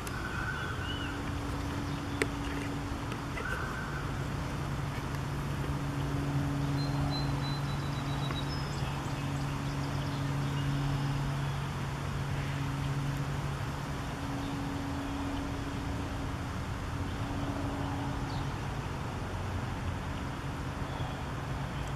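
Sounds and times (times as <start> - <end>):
low motor hum: 0.0 - 21.9
outdoor background noise: 0.0 - 21.9.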